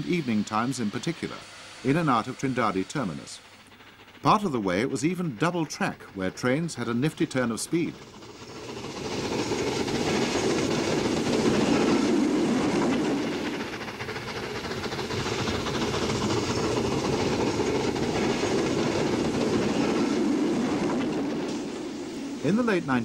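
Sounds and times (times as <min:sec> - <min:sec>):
steam train running past: 0:00.0 - 0:23.0.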